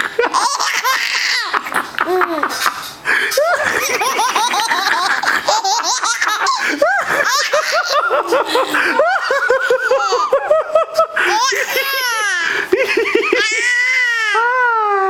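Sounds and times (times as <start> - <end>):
baby giggling: 0.0 - 14.4.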